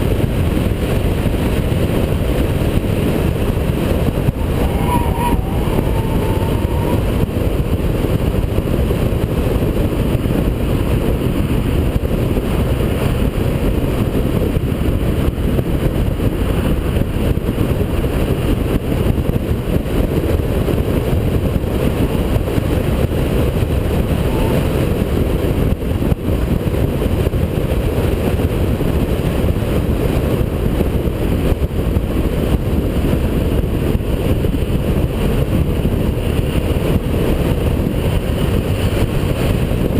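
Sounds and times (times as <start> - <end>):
car engine droning at speed: 0.0 - 39.9
road noise: 0.0 - 39.9.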